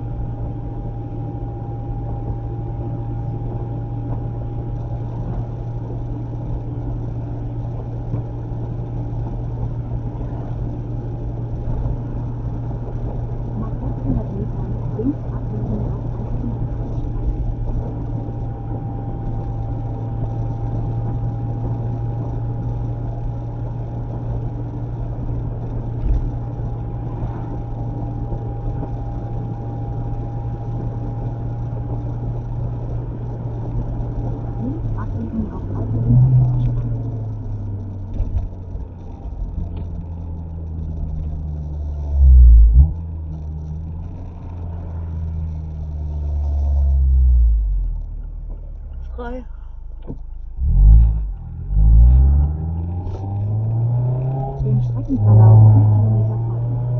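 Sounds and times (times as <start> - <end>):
car engine drone in cabin: 0.0 - 56.9.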